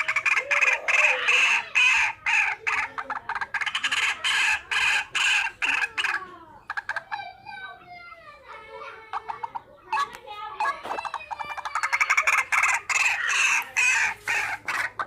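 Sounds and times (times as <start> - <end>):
waterhen calling harshly: 0.0 - 7.0, 9.2 - 15.0.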